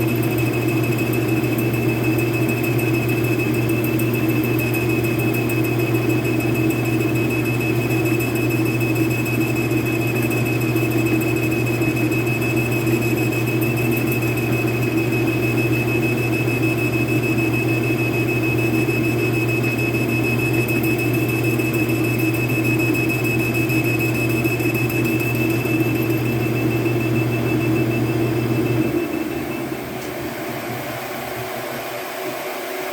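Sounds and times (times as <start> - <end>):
metal lathe humming and whining: 0.0 - 32.9.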